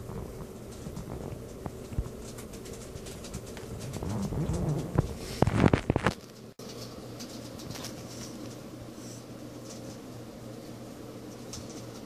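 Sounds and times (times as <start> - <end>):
scratchy rustles: 0.0 - 10.1
steady low hum: 0.0 - 12.0.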